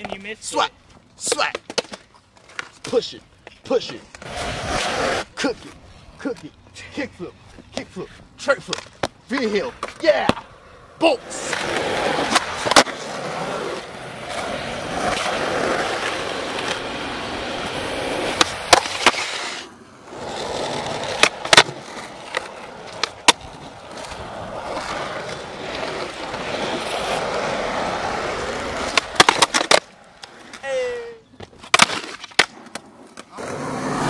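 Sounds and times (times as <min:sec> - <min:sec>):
skateboard clacking on ground: 0:00.0 - 0:04.4, 0:07.5 - 0:10.5, 0:11.2 - 0:33.6
skateboard wheels rolling on asphalt: 0:00.0 - 0:34.0.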